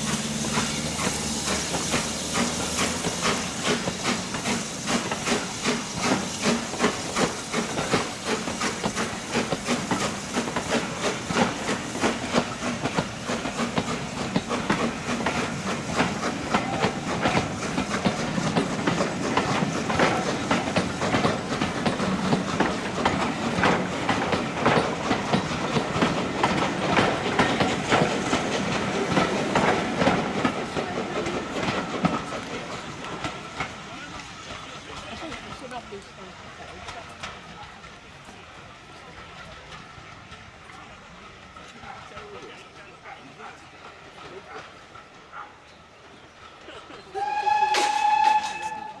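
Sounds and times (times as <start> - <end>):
steam hissing: 0.0 - 49.0
train wheels clicking on rails: 0.0 - 49.0.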